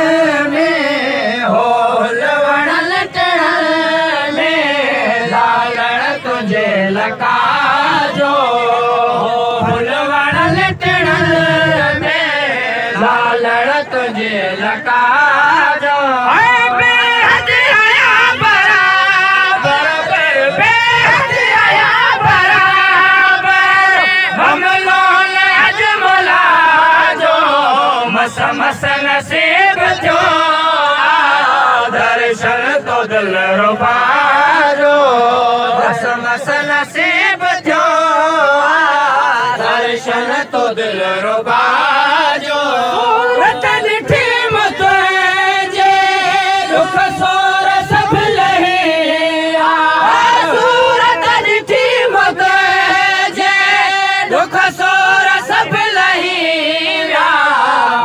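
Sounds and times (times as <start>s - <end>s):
man singing into microphone: 0.0s - 58.0s.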